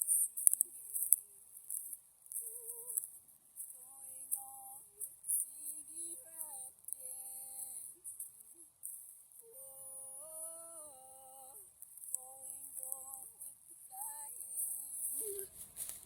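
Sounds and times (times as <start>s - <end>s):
person singing wordless held notes: 0.0s - 16.0s.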